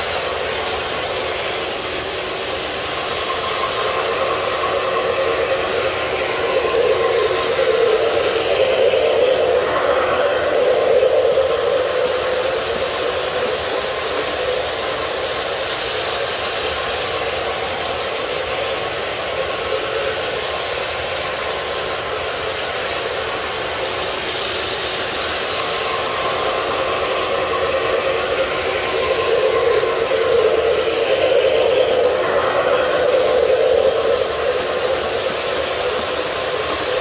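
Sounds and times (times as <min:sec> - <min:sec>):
model trains rolling rumble: 0:00.0 - 0:37.0.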